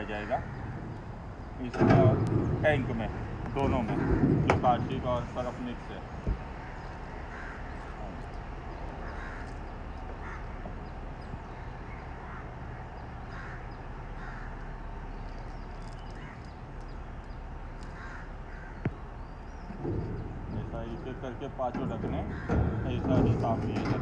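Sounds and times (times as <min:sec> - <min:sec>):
birds cawing: 0:00.0 - 0:24.0
low background hum: 0:00.0 - 0:24.0.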